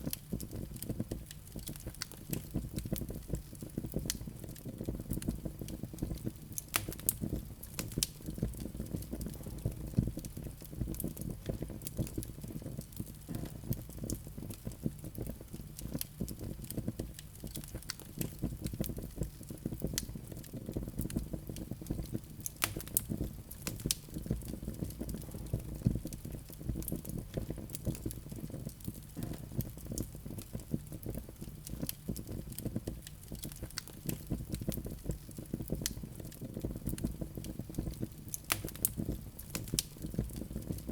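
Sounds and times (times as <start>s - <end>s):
fire crackling and popping: 0.0s - 40.9s
fire flames rumbling: 0.0s - 40.9s.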